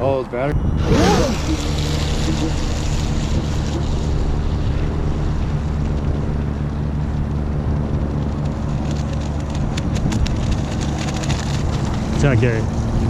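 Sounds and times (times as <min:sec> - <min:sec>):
water noise: 0:00.0 - 0:13.0
wind on microphone: 0:00.0 - 0:13.0
engine idling: 0:00.6 - 0:13.0.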